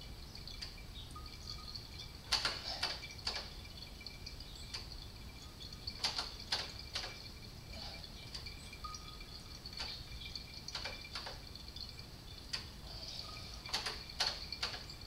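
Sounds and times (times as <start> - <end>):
fluid dripping into bottle: 0.0 - 15.0.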